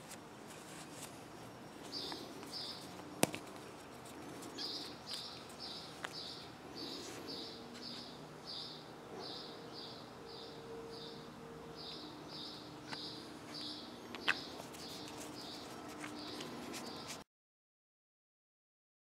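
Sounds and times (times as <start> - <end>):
bird chirping: 1.2 - 17.2.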